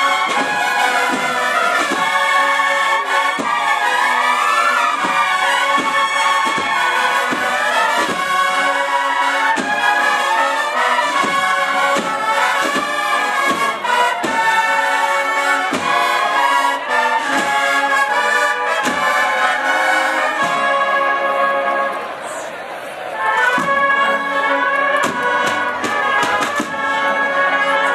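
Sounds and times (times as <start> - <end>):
cornet and drum band march: 0.0 - 22.0, 23.2 - 27.9.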